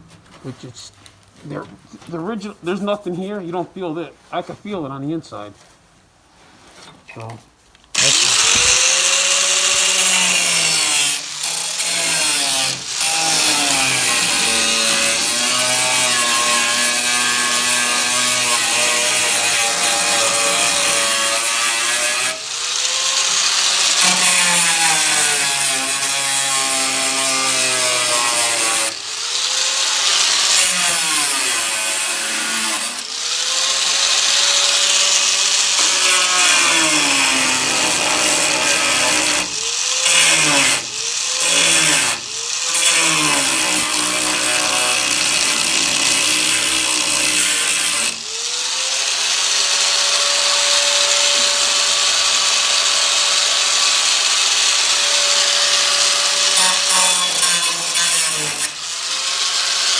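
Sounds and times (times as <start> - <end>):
power tool cutting sheet metal: 8.0 - 59.9.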